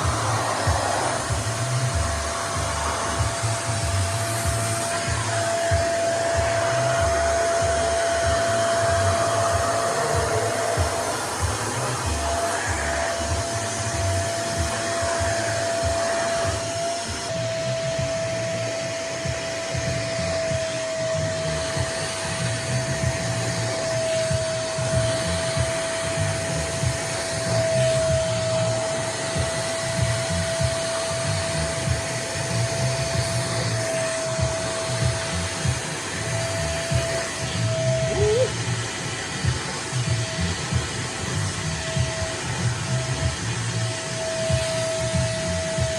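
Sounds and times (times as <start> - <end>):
vacuum cleaner blowing: 0.0 - 45.9.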